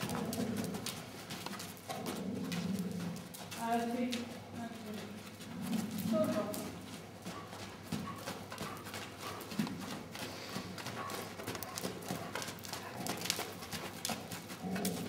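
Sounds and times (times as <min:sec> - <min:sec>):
pony hoofbeats on sand: 0:00.0 - 0:15.0.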